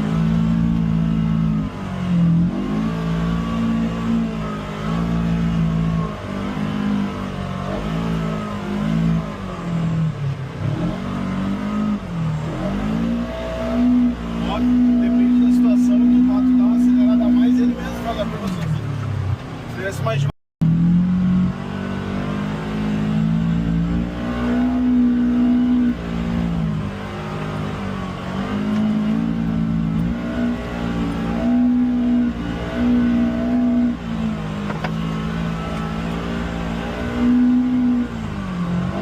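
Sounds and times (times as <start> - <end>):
engine revving up and down: 0.0 - 18.8, 20.6 - 39.0.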